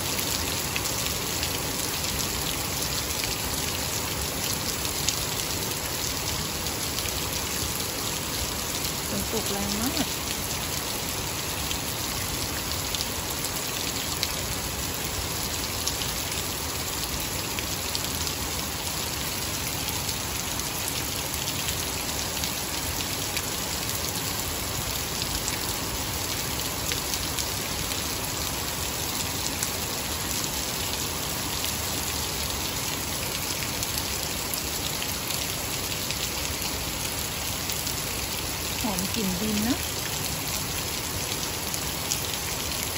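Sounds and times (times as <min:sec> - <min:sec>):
heavy rain on wet lawn: 0:00.0 - 0:42.9.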